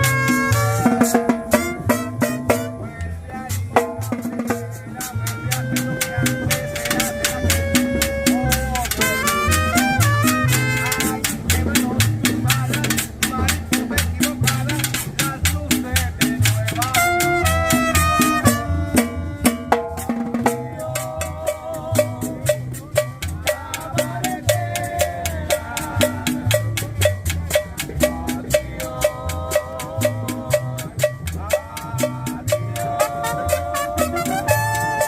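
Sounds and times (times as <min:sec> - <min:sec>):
cowbell and drum strikes: 0:00.0 - 0:35.0
tropical dance band playing: 0:00.0 - 0:35.0.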